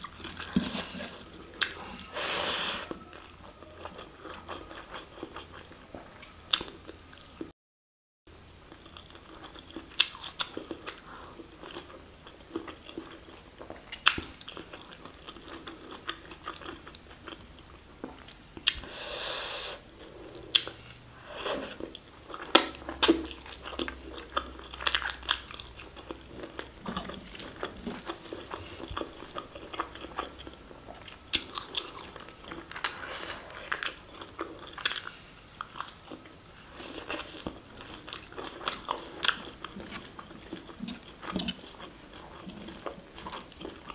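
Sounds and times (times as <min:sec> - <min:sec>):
chewing food: 0:00.0 - 0:07.5, 0:08.7 - 0:43.9.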